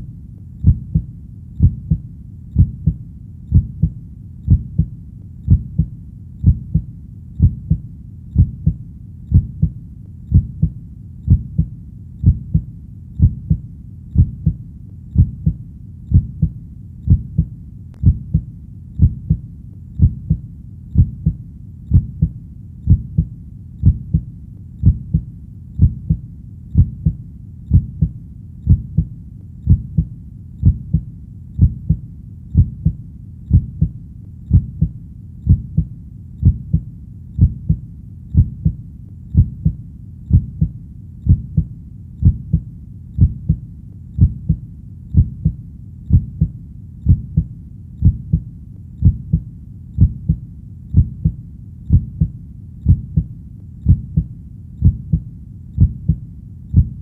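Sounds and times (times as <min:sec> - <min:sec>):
heartbeat thuds: 0:00.0 - 0:43.6, 0:44.2 - 0:57.0.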